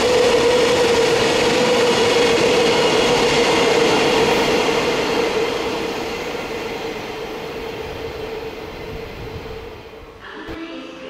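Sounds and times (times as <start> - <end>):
train wheels rumbling on rail: 0.0 - 10.5.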